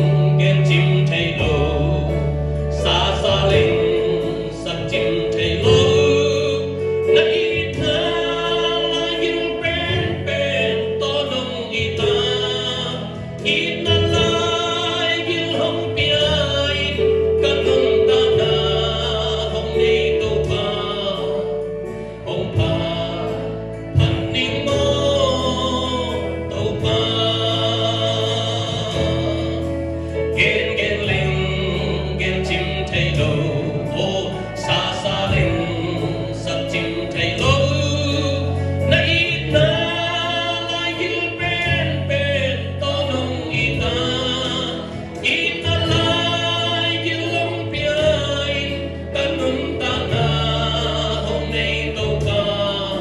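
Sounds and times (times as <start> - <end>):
man singing into a microphone: 0.0 - 53.0
sustained low chords: 0.0 - 53.0.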